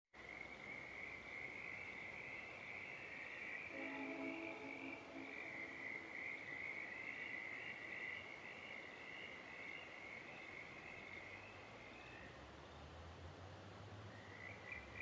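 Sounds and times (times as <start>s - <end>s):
frogs trilling: 0.2s - 12.3s, 14.1s - 15.0s.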